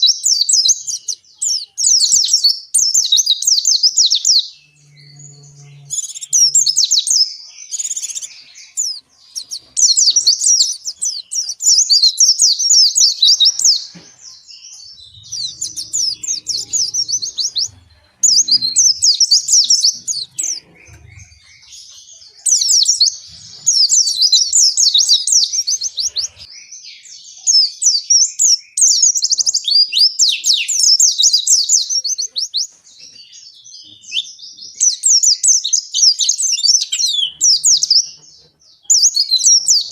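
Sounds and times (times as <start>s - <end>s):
bird chattering and twittering: 0.0s - 39.9s.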